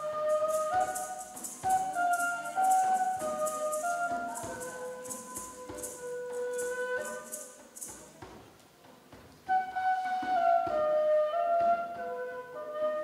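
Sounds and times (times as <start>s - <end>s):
slow flute melody: 0.0s - 8.0s, 9.4s - 13.0s
shaker rhythm: 0.0s - 12.2s.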